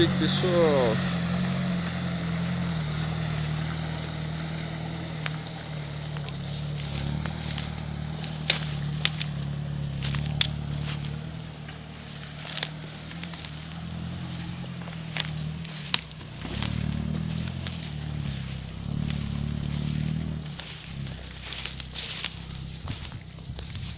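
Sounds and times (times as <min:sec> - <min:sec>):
off-road vehicle engine droning: 0:00.0 - 0:23.9.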